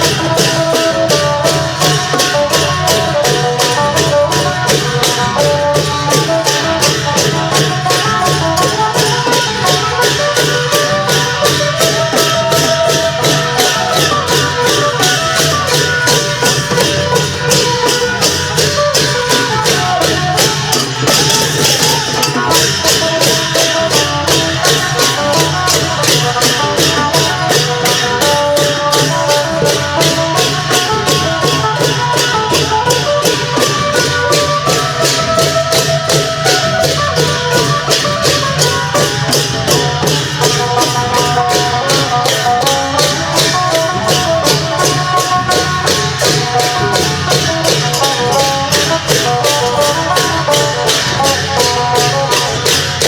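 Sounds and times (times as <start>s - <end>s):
fast cymbal beat: 0.0s - 53.0s
long drums: 0.0s - 53.0s
lute melody: 0.0s - 53.0s.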